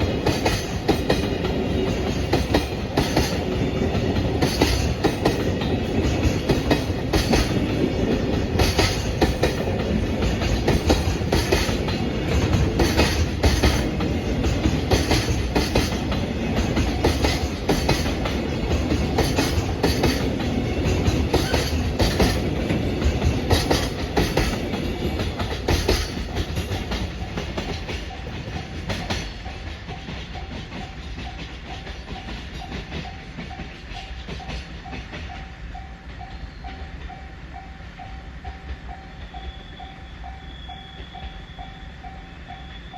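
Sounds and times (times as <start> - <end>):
train wheels clacking over rail joints: 0.0 - 37.2
freight train rumble: 0.0 - 42.9.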